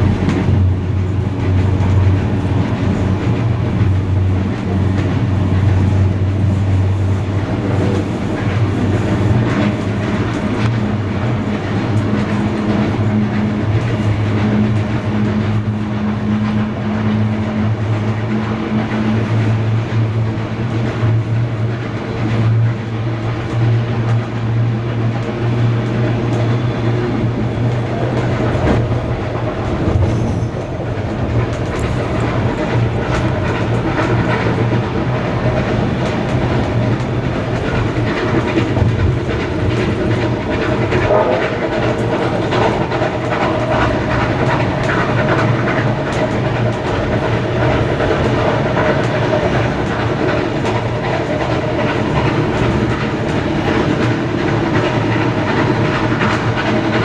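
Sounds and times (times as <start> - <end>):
steam train rumbling: 0.0 - 57.0
wheels clicking over rail joints: 0.0 - 57.0.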